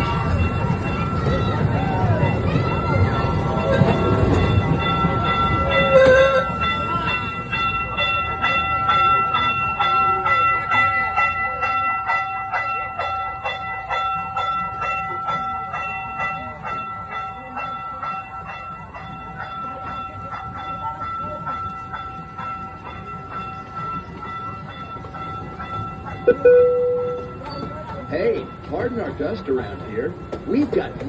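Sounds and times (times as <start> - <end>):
train clacking on track: 0.0 - 31.0.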